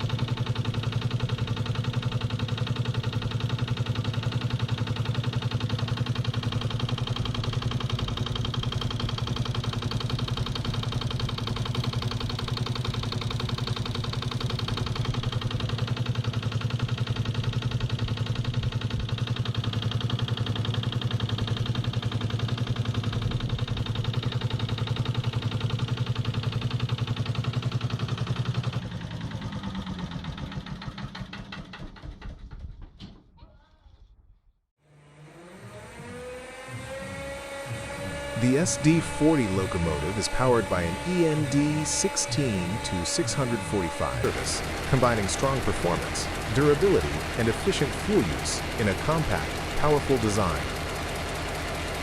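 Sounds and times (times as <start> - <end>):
two-stroke diesel engine running: 0.0 - 32.6, 35.3 - 52.0.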